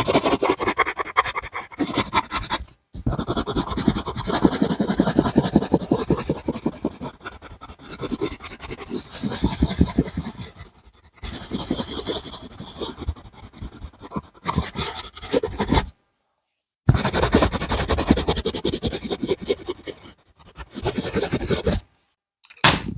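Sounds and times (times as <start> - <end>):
drawing tool scratching on paper: 0.0 - 15.9, 16.9 - 21.9.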